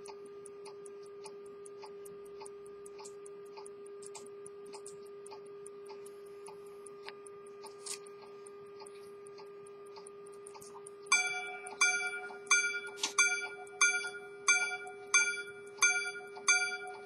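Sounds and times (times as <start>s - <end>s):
pocket watch ticking: 0.0s - 17.0s
steady hum: 0.0s - 17.0s.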